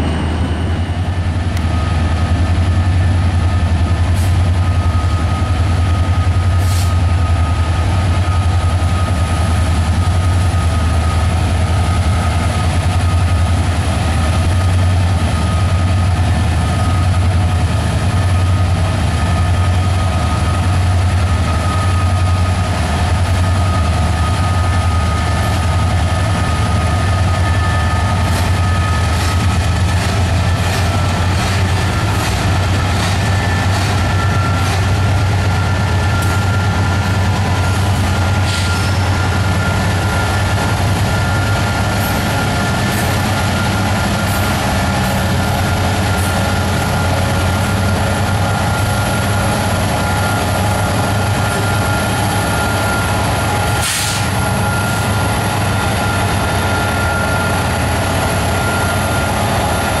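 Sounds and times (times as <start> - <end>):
diesel locomotive engines droning: 0.0 - 60.0.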